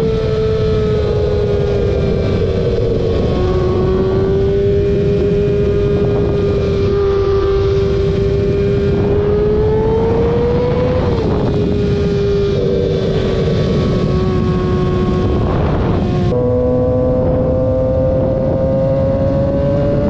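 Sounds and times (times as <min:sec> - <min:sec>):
car engine at high revs: 0:00.0 - 0:20.0.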